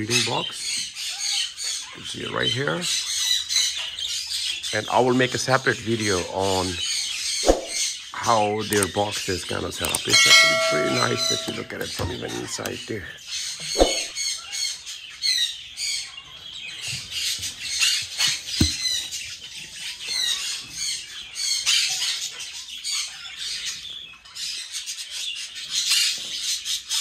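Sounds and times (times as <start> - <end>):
parrots squawking and chirping: 0.0 - 27.0.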